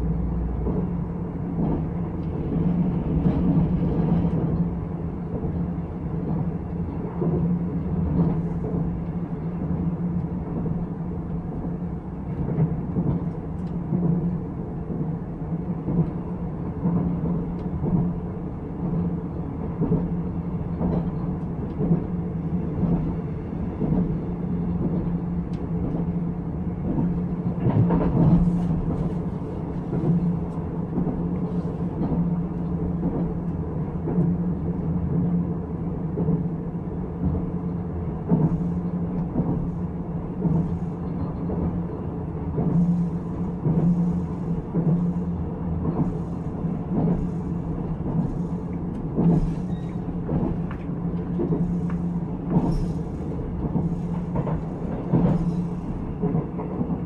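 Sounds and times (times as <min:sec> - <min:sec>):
train carriage low rumble: 0:00.0 - 0:57.0
train clatter: 0:00.0 - 0:57.0.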